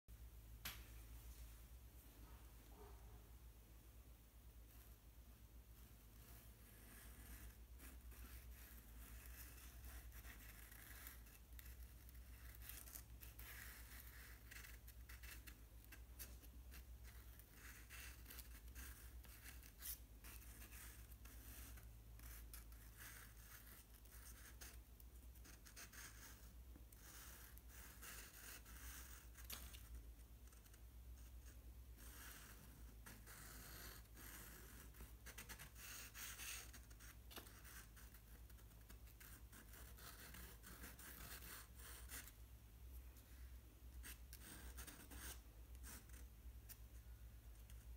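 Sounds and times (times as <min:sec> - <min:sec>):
pen scratching on paper: 0:05.8 - 0:42.4, 0:44.0 - 0:46.3.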